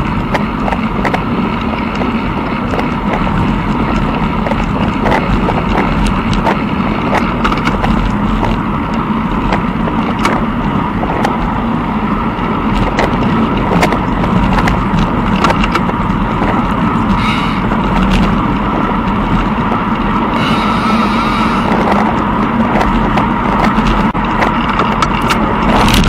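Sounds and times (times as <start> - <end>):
bicycle rolling on gravel: 0.0 - 26.0
ticks and rattles: 0.0 - 26.0
wind noise: 0.0 - 26.0.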